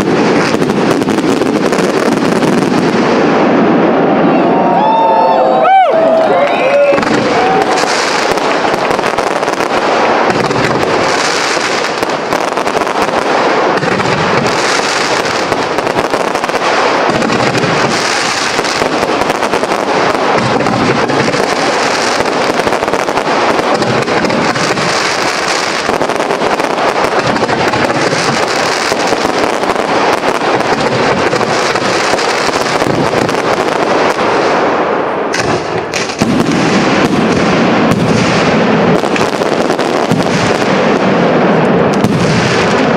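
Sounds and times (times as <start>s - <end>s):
sharp firework bangs: 0.0s - 4.2s, 6.9s - 42.9s
fireworks bursting: 0.0s - 42.9s.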